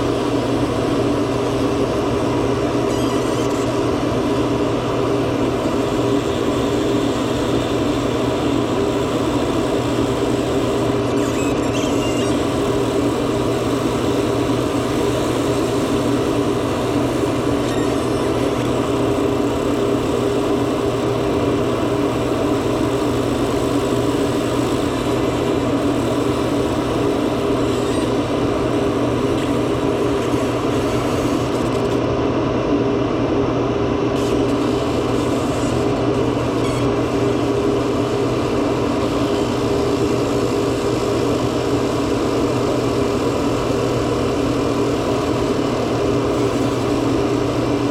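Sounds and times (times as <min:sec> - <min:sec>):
machine humming and whirring: 0:00.0 - 0:47.9.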